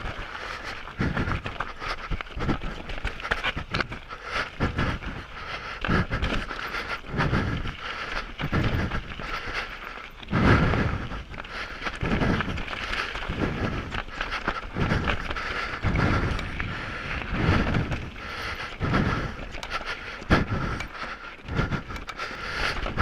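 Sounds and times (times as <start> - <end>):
bike clicks and rattles: 0.0 - 23.0
heavy breathing on microphone: 0.0 - 23.0.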